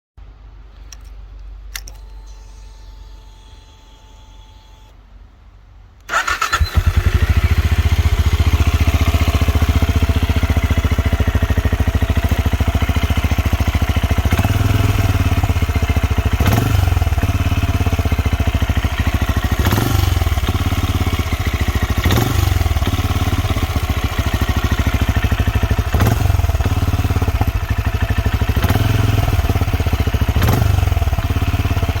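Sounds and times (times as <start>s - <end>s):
motorcycle engine idling: 6.1s - 32.0s.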